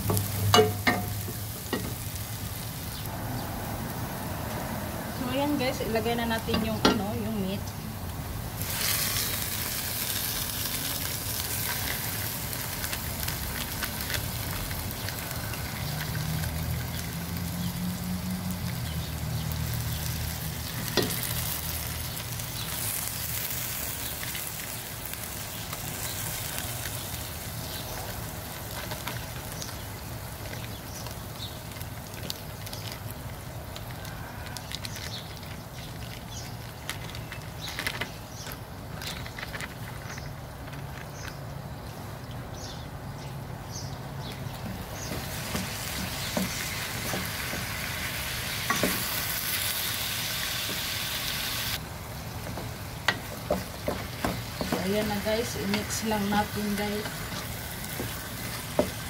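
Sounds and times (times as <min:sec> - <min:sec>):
onion and garlic sizzling in oil: 0:00.0 - 0:38.9, 0:44.3 - 0:59.0.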